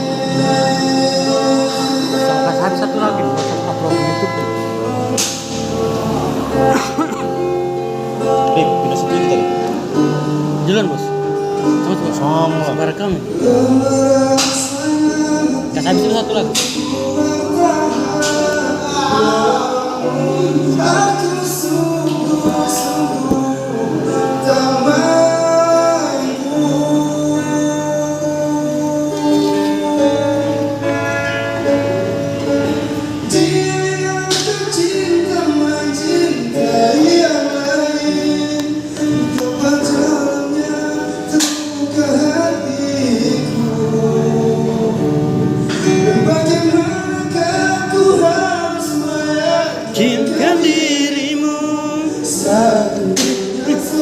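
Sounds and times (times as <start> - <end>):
instrumental accompaniment: 0.0 - 54.0
man singing: 0.0 - 54.0.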